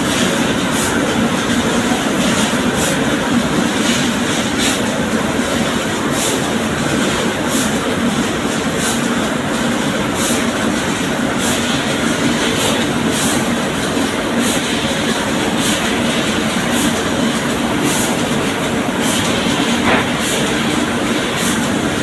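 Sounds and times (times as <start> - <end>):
loud machinery running: 0.0 - 22.0.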